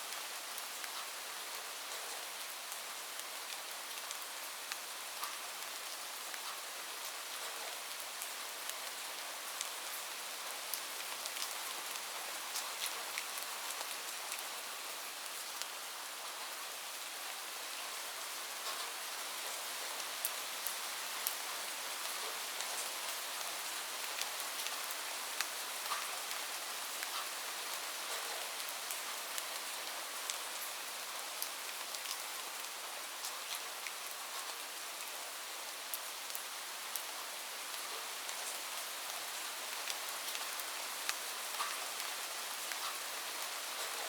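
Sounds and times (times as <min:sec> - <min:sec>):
raindrops ticking on surface: 0:00.1 - 0:14.5, 0:18.6 - 0:35.1, 0:35.8 - 0:44.0.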